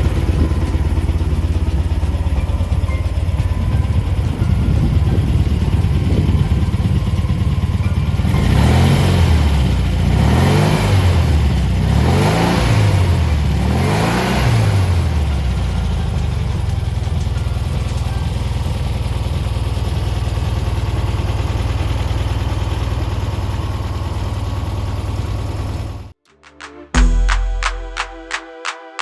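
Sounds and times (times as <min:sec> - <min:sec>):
engine idling and revving: 0:00.0 - 0:26.2.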